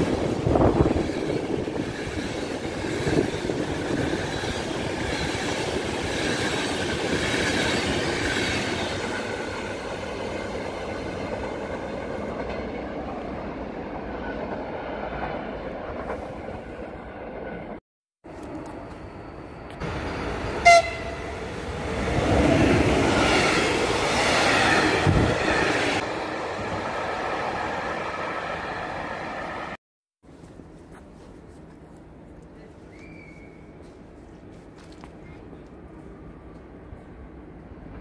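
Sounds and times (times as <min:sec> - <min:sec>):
train coaches rolling past: 0:00.0 - 0:38.0.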